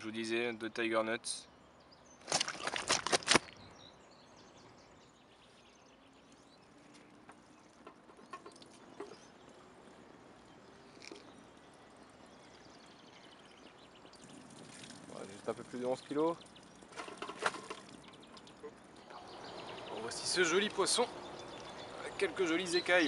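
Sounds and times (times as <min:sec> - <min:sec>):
faint bird chirps: 0:03.5 - 0:16.9, 0:17.8 - 0:23.0.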